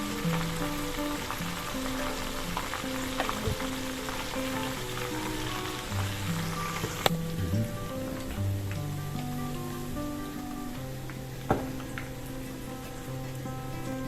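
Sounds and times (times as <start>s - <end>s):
background music: 0.0s - 14.0s
oil sizzling while deep-frying: 0.0s - 14.0s.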